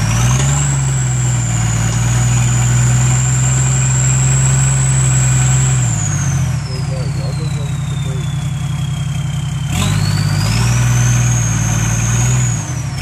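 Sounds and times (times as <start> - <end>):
engine at raised revs: 0.0 - 13.0
high turbo whistle: 0.8 - 13.0.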